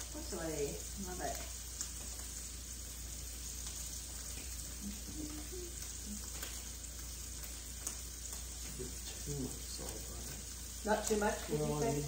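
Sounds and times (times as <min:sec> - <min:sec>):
steaks sizzling in skillet: 0:00.0 - 0:12.0.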